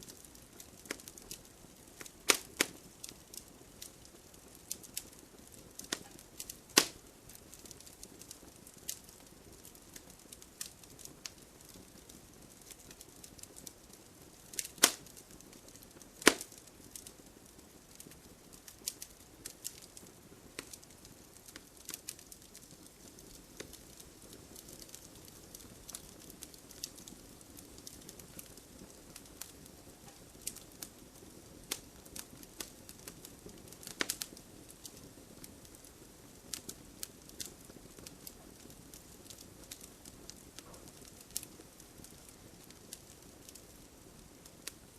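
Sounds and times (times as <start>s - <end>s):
fire crackling and popping: 0.0s - 44.9s
fire hissing softly: 0.0s - 44.9s.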